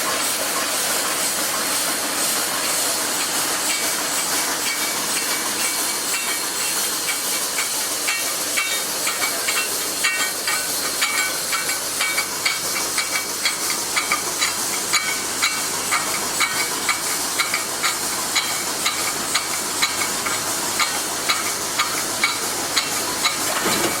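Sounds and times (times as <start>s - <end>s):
welding machine high-pitched hiss: 0.0s - 24.0s.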